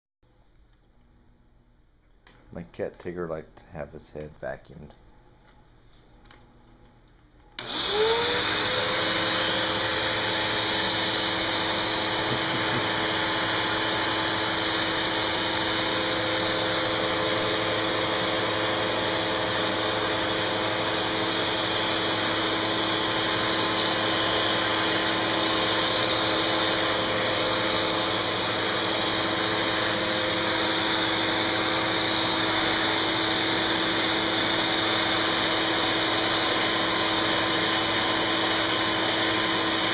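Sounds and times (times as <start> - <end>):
vacuum cleaner motor whine: 7.4 - 39.9.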